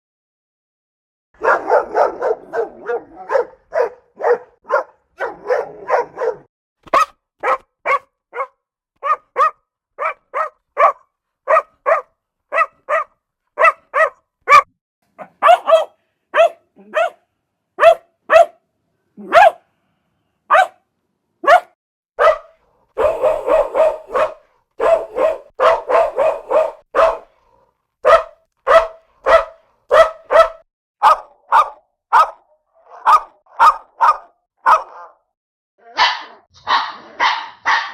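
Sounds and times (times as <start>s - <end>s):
dogs barking: 1.4s - 17.2s, 17.8s - 18.6s, 19.2s - 19.6s, 20.5s - 20.8s, 21.4s - 27.3s, 28.0s - 35.2s, 36.0s - 37.9s.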